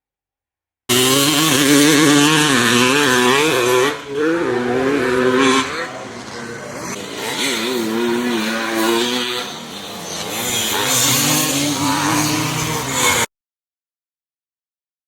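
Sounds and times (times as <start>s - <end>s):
dirt bike engines racing past: 0.9s - 13.3s
lower dirt bike engine note: 0.9s - 13.3s.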